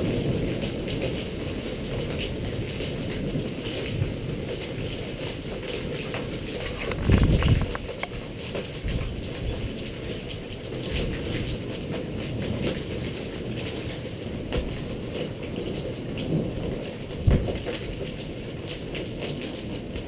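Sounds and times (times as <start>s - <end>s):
rain ticking on camera: 0.0s - 20.0s.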